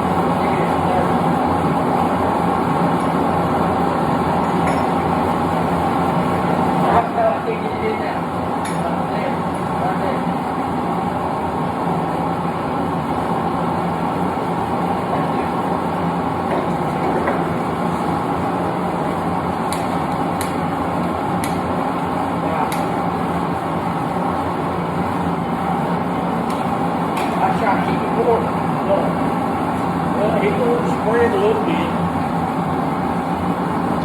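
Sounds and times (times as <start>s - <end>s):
propane burner rushing: 0.0s - 34.0s.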